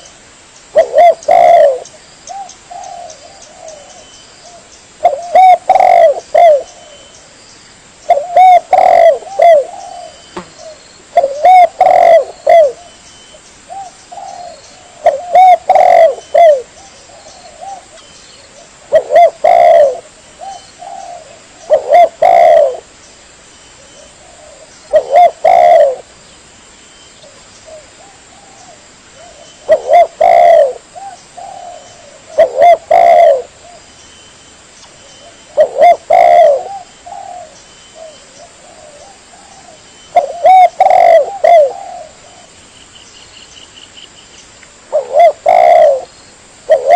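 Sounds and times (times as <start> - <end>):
dove cooing: 0.7 - 7.1, 8.0 - 13.0, 13.7 - 22.9, 23.9 - 26.1, 27.2 - 33.9, 35.2 - 42.6, 44.9 - 46.1, 46.7 - 46.9.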